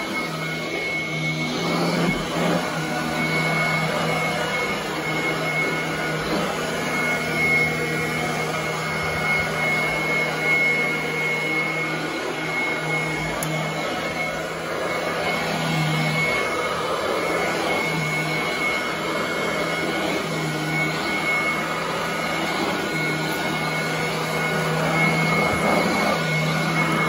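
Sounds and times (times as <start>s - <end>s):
vacuum cleaner high whine: 0.0s - 27.0s
vacuum cleaner motor humming: 0.0s - 27.0s.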